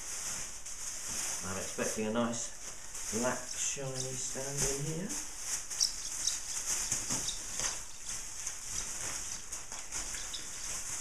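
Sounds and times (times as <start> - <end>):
plastic bag rustling and crinkling: 0.0 - 11.0.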